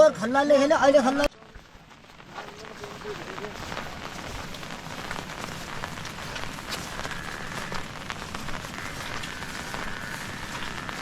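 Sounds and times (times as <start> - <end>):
steady rain: 0.0 - 11.0
raindrops ticking: 1.0 - 11.0.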